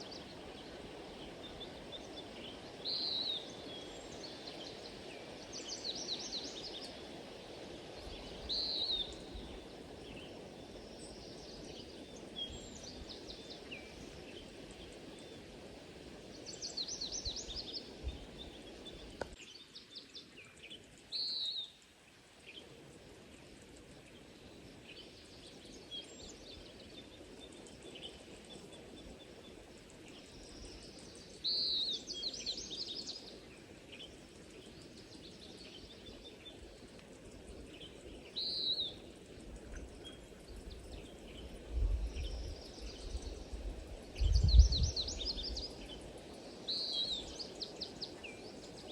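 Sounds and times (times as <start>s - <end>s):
small birds singing: 0.0s - 7.1s, 8.0s - 15.5s, 16.2s - 48.9s
low rush of background noise: 0.0s - 48.9s.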